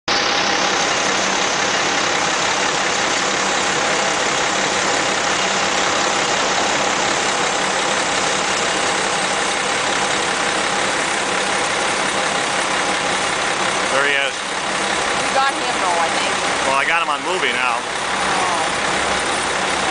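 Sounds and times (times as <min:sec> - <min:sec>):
city traffic: 0:00.1 - 0:19.9
engines idling: 0:00.1 - 0:19.9.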